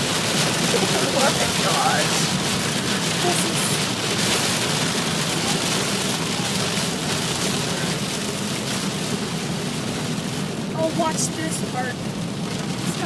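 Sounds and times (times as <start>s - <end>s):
engine and road noise: 0.0s - 13.0s
heavy rain on a car: 0.0s - 13.0s.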